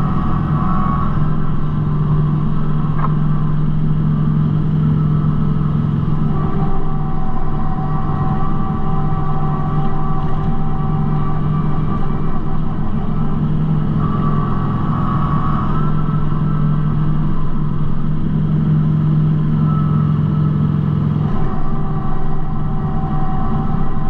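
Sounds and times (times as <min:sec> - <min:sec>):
faint high whine: 0:00.0 - 0:24.0
tractor diesel engine running: 0:00.0 - 0:24.0.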